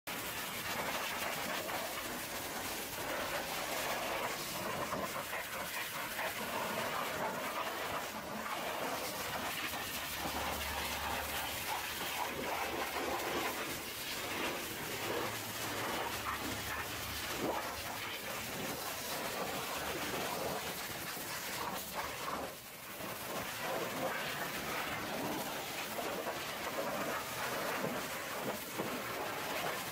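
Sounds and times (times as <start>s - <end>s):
pressure washer spraying water: 0.1s - 29.9s.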